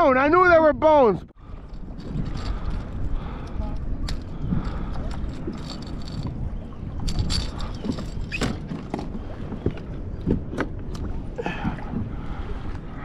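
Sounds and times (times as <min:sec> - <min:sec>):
water around a kayak: 0:00.0 - 0:13.0
wind on the microphone: 0:00.0 - 0:13.0.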